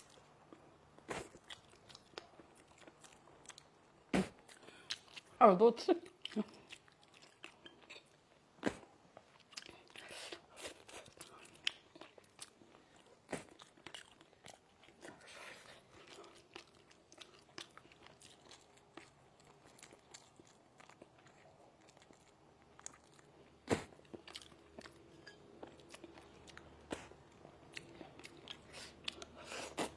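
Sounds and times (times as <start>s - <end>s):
person chewing crunchy food: 0.0s - 5.3s, 6.2s - 29.9s.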